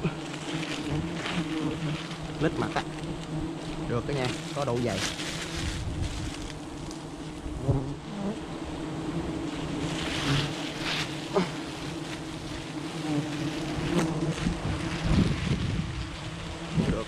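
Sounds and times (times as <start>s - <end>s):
bees buzzing drone: 0.0s - 17.0s
falling-pitch bee buzz: 0.0s - 17.0s.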